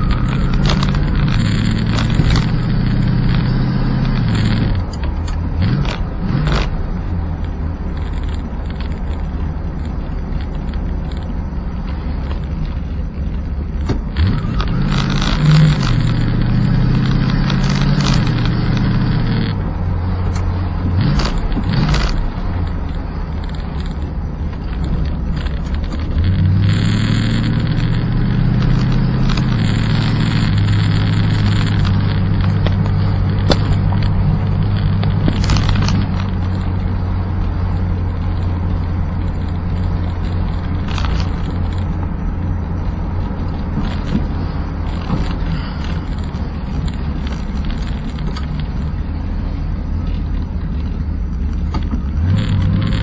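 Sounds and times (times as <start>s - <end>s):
car engine accelerating: 0.0s - 53.0s
road noise: 0.0s - 53.0s.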